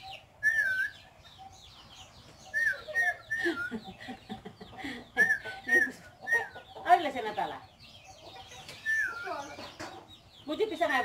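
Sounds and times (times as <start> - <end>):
low clucking bird calls: 0.0 - 11.0.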